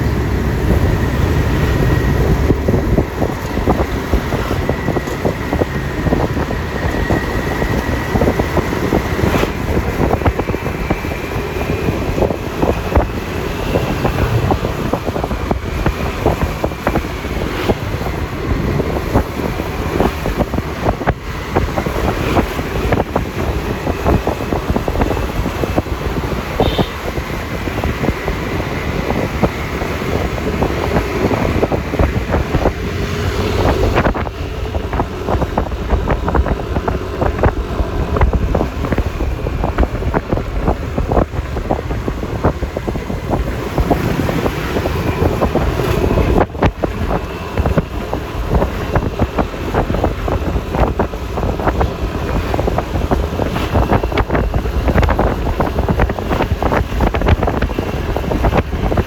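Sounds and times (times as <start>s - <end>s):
scooter engine and road noise: 0.0s - 59.0s
wind buffeting microphone: 0.0s - 59.0s.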